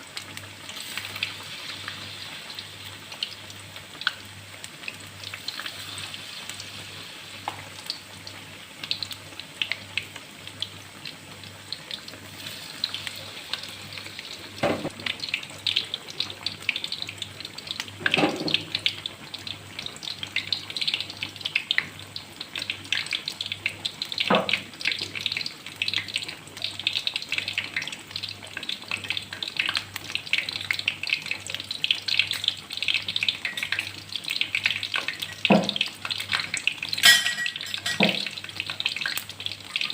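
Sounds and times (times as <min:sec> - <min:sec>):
batter frying in hot oil: 0:00.0 - 0:39.9.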